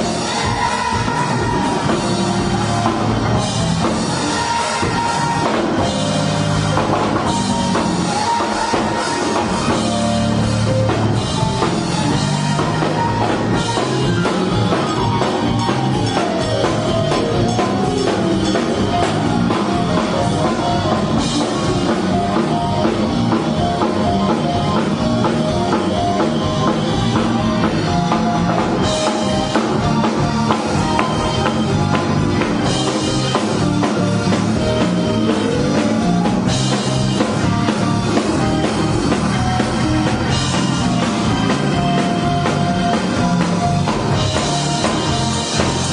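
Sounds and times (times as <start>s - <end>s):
fast busy drumming: 0.0s - 45.9s
guitar: 0.0s - 45.9s
keyboards: 0.0s - 45.9s.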